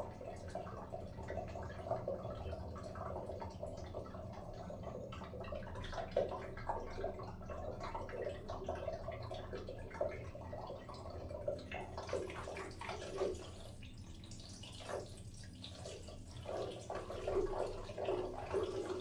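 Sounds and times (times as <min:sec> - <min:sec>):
water dripping and splashing: 0:00.3 - 0:19.0.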